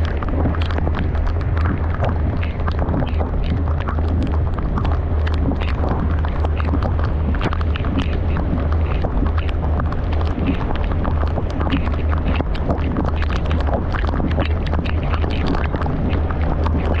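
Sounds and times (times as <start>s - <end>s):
raindrops ticking on car: 0.0s - 17.0s.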